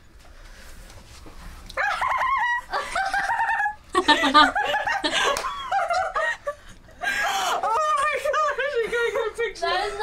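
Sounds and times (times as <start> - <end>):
girls giggling and squealing: 1.8 - 10.0.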